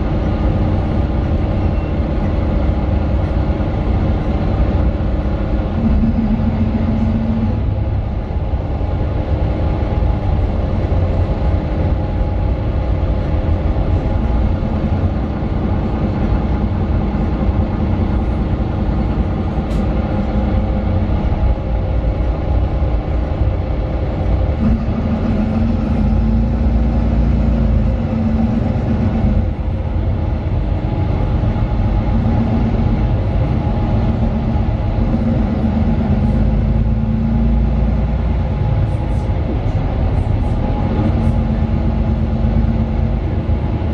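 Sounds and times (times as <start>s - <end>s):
bus diesel engine rumble: 0.0s - 43.9s.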